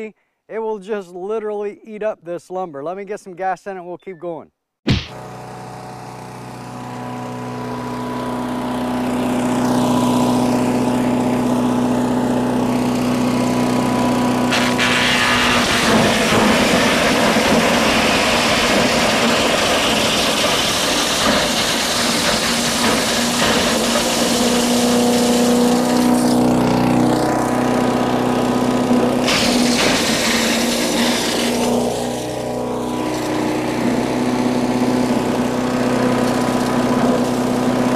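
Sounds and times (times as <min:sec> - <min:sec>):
chipper shredder engine running: 0:05.1 - 0:37.9
machine grinding wood: 0:06.3 - 0:37.9.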